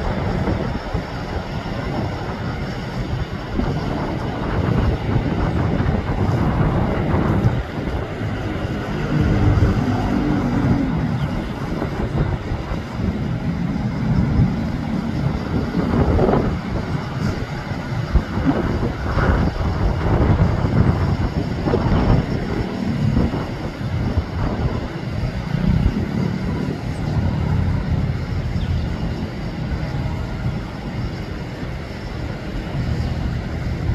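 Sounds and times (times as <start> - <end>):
jet engines rumbling at takeoff: 0.0 - 33.9.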